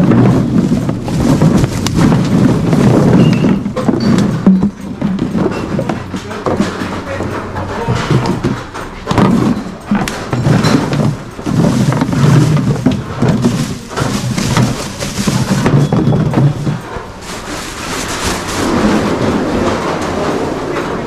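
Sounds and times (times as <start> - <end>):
plastic bottles and bags handled: 0.0 - 20.2.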